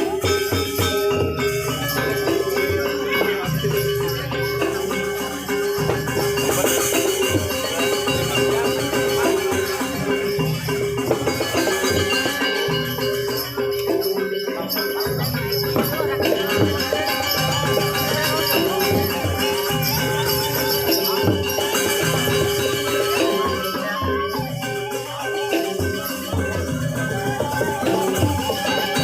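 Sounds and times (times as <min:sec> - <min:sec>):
gamelan dance music: 0:00.0 - 0:29.0
small cymbals jingling: 0:00.0 - 0:29.0.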